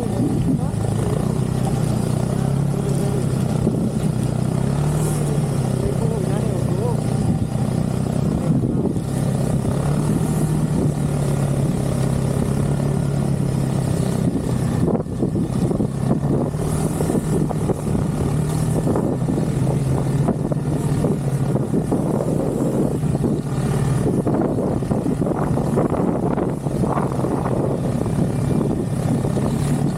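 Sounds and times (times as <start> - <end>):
snowmobile engine running: 0.0 - 29.9.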